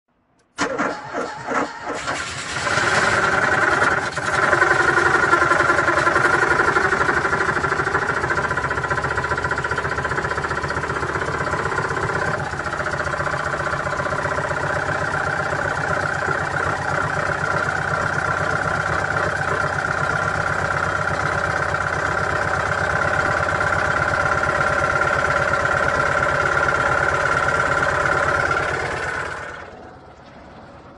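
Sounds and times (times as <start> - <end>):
starter cranking car engine: 0.5 - 29.8
car engine running: 1.5 - 30.9.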